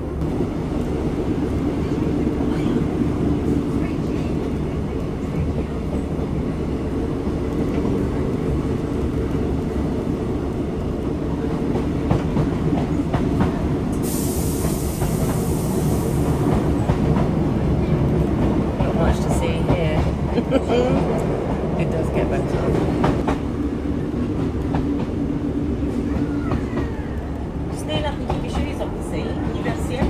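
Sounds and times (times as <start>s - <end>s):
train rumble: 0.0s - 30.0s.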